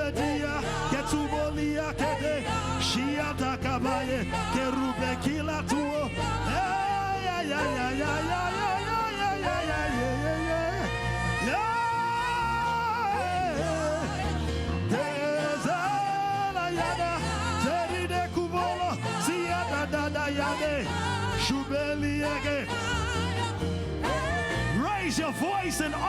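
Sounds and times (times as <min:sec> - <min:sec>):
keyboard chords and bass: 0:00.0 - 0:26.0.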